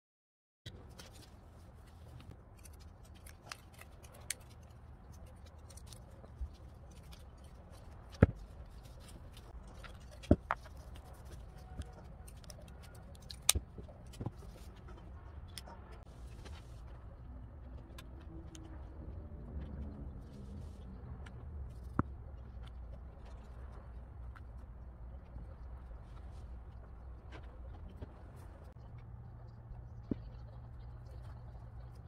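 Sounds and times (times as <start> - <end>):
low steady hum: 0.7 - 32.0.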